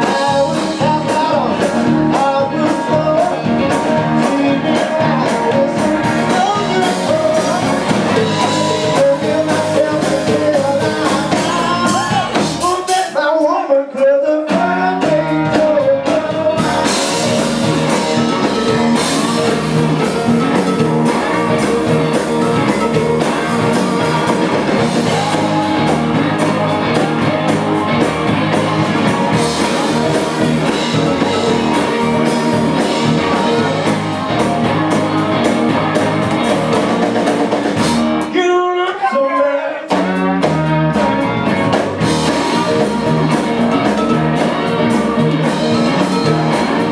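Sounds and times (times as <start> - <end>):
bending electric guitar line: 0.0 - 12.7, 14.5 - 38.4, 39.9 - 46.9
blues-rock band playing: 0.0 - 46.9.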